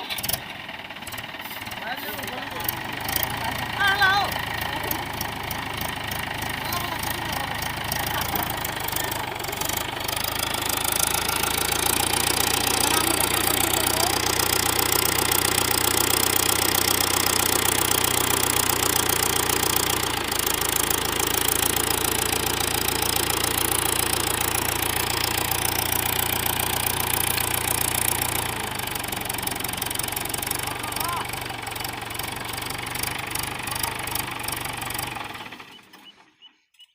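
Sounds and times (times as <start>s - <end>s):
tractor diesel engine running: 0.0s - 36.5s.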